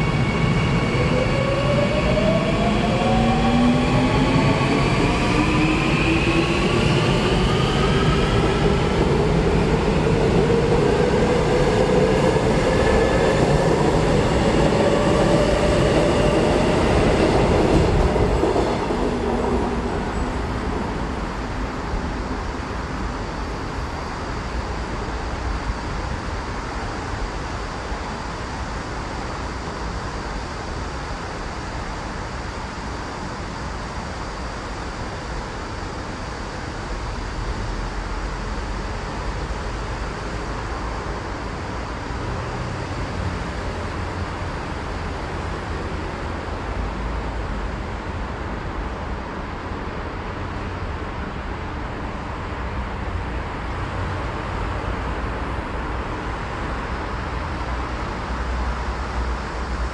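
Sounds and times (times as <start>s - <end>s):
city road traffic roar: 0.0s - 59.9s.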